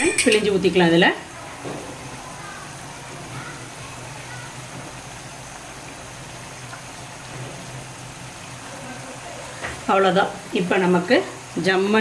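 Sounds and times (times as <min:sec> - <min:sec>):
gravy simmering and bubbling: 0:01.2 - 0:11.6.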